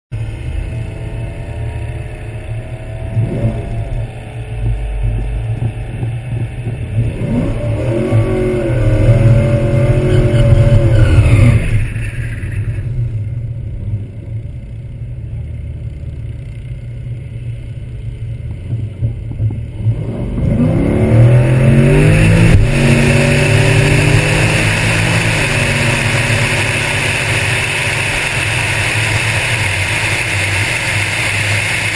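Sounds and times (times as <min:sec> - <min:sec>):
drag car engine revving: 0:00.2 - 0:14.2, 0:19.7 - 0:31.9.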